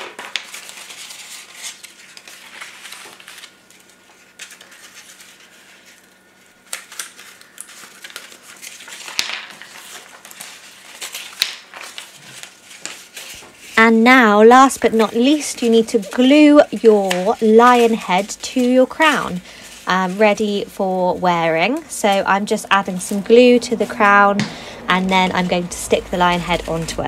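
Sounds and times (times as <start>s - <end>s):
paper rustling and crinkling: 0.0s - 27.0s.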